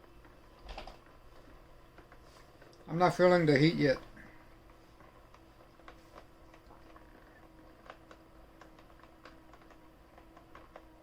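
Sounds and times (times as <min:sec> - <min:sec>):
foot massager humming: 0:00.0 - 0:11.0.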